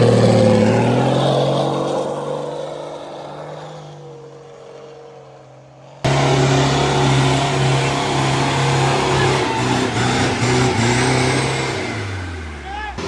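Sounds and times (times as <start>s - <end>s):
off-road engine revving hard: 0.0s - 4.0s, 6.0s - 13.0s.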